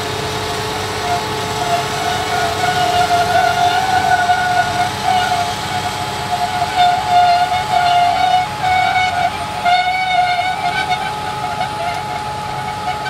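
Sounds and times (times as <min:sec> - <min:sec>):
high whine: 0:00.0 - 0:13.0
tractor engine rumble: 0:00.0 - 0:13.0.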